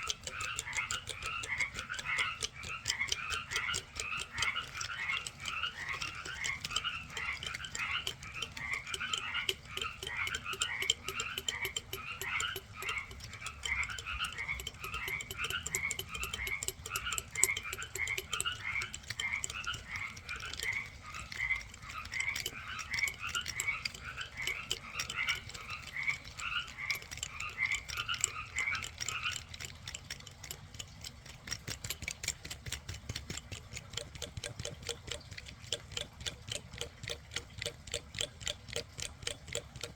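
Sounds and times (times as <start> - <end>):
fine steady clicking: 0.0 - 39.9
small animal chirping: 0.0 - 39.9.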